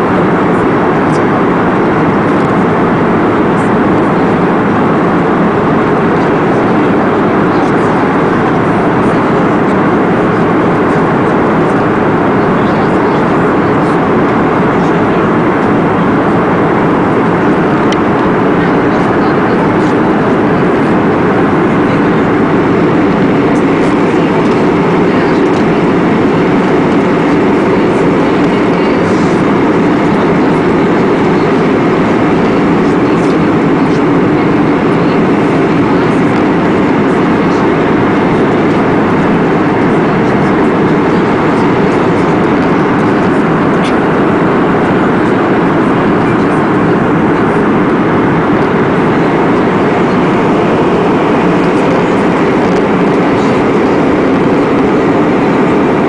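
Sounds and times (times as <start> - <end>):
loud steady rumbling: 0.0 - 56.0.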